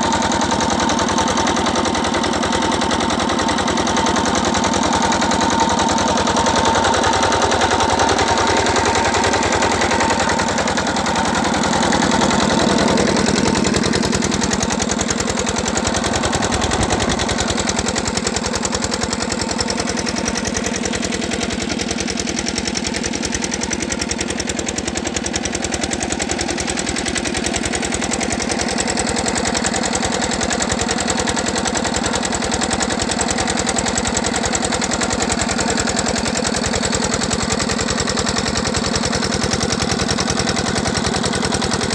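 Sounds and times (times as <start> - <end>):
diesel water pump engine knocking: 0.0 - 41.9.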